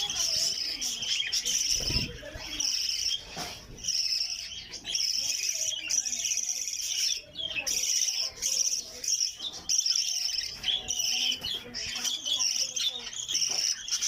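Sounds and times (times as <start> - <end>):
budgerigars chirping and warbling: 0.0 - 14.0.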